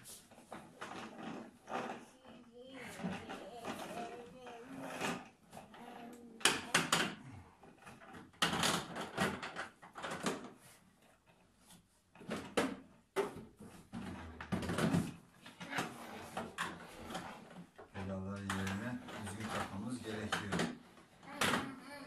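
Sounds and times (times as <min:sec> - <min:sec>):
toy car rolling on plastic: 0:00.0 - 0:22.0
hard plastic knocking and rattling: 0:00.3 - 0:10.6, 0:12.1 - 0:21.8.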